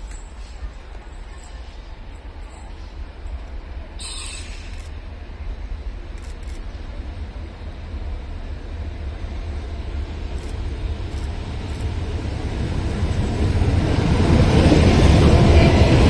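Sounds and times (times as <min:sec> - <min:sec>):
diesel locomotive engine rumble: 0:00.0 - 0:16.0
train wheels on rails: 0:00.0 - 0:16.0.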